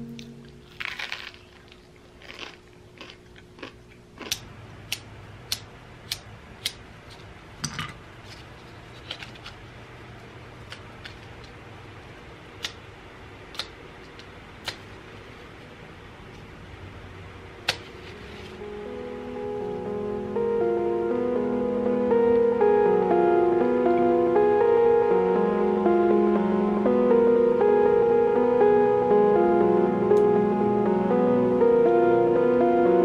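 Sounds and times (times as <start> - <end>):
faint low hum: 0.0 - 33.0.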